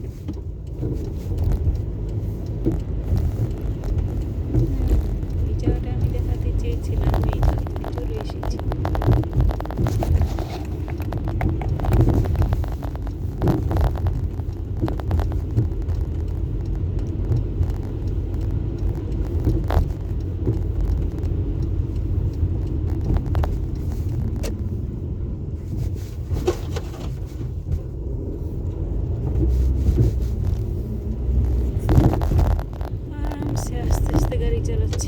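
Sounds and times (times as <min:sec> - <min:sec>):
car engine and tyres rumble: 0:00.0 - 0:35.0.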